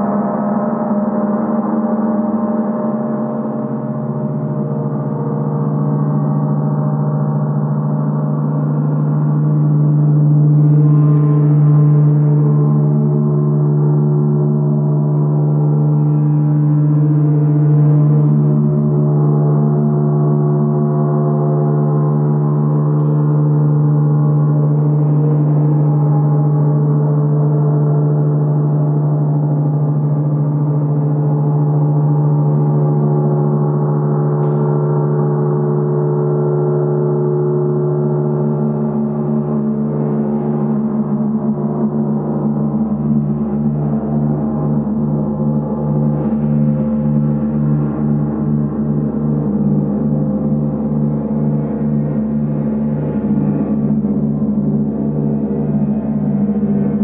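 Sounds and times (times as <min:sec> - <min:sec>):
large gong ringing: 0:00.0 - 0:57.0.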